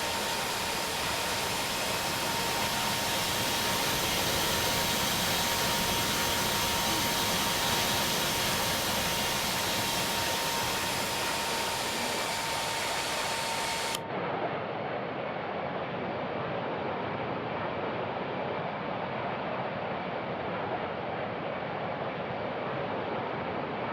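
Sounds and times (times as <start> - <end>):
thin jet engine whine: 0.0 - 19.4.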